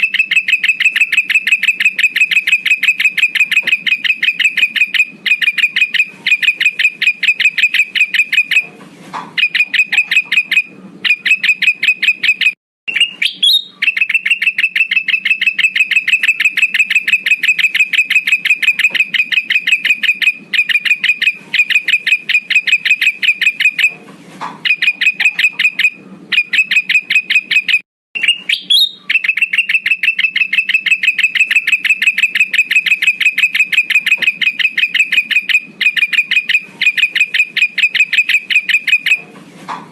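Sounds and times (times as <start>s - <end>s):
bird calling high notes: 0.0s - 8.7s, 9.4s - 23.9s, 24.7s - 39.2s.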